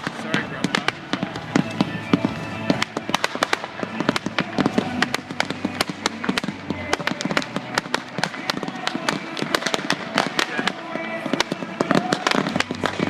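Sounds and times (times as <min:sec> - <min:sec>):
fireworks cracking and popping: 0:00.0 - 0:13.0.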